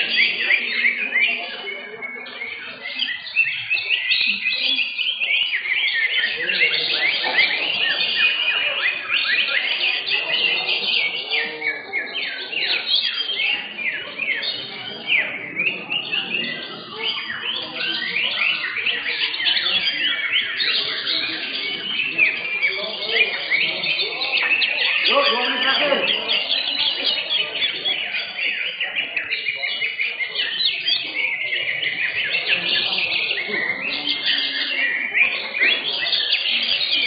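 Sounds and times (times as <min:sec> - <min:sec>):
birds singing chatter: 0:00.0 - 0:37.0
murmur of human voices: 0:00.0 - 0:37.0.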